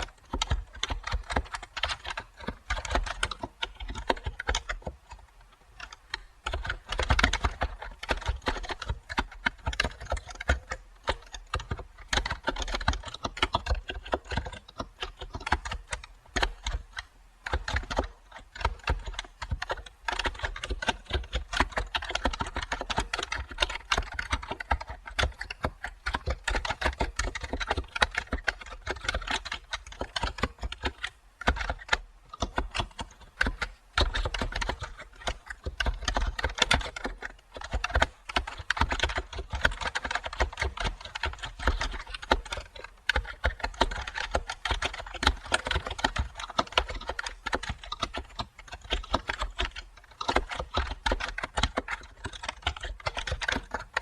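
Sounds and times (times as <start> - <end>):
typing on computer keyboard: 0.0 - 54.0.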